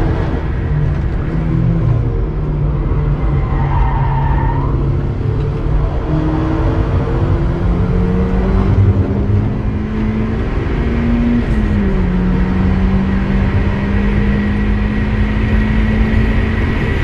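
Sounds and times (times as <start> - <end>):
car engine revving high: 0.0 - 17.0
road and wind noise: 0.0 - 17.0.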